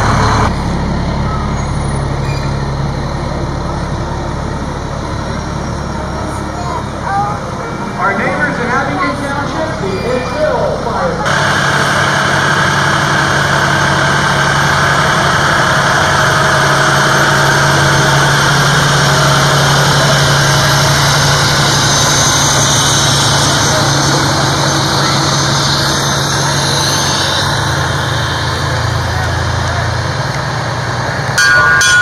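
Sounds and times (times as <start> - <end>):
diesel truck engine passing: 0.0 - 32.0.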